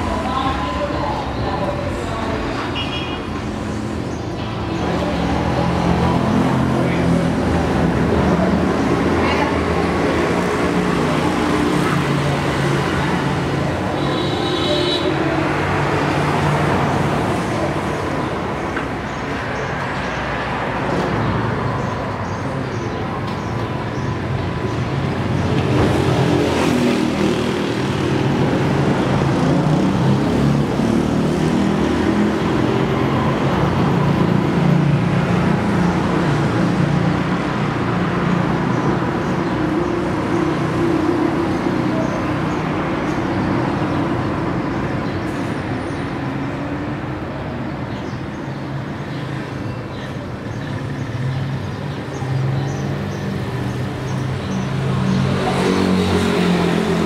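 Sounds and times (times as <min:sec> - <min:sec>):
road traffic vehicles passing: 0:00.0 - 0:57.0.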